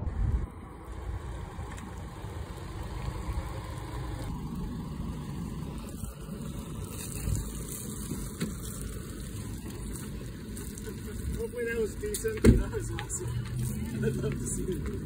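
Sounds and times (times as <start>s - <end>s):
pickup engine running low: 0.0s - 15.0s
water splashing onto road: 0.8s - 15.0s.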